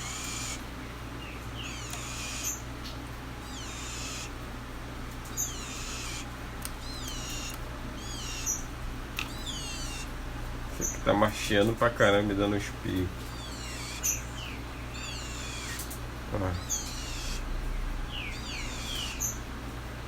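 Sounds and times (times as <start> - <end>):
bird chicks raspy calls: 0.0 - 4.6, 5.2 - 10.2, 10.8 - 19.6.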